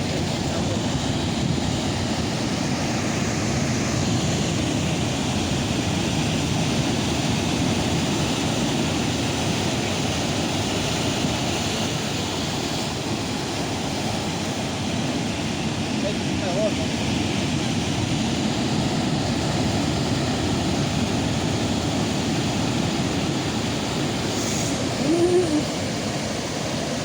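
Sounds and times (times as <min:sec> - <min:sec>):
rushing water: 0:00.0 - 0:27.0
wind: 0:00.0 - 0:27.0.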